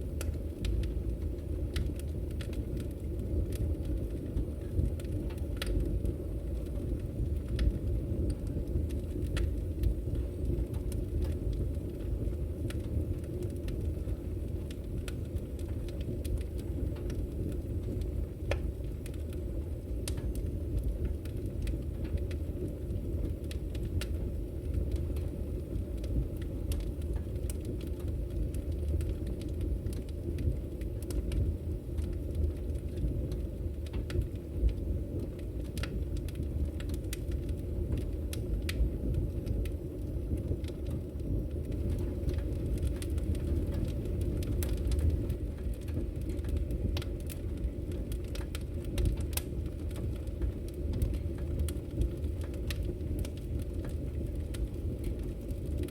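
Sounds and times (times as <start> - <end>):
fire popping and crackling: 0.0 - 55.9
wood fire rumbling: 0.0 - 55.9.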